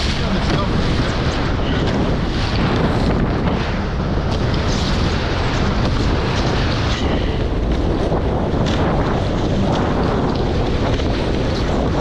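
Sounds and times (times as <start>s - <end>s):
water rushing along boat hulls: 0.0s - 12.0s
wind buffeting microphone: 0.0s - 12.0s.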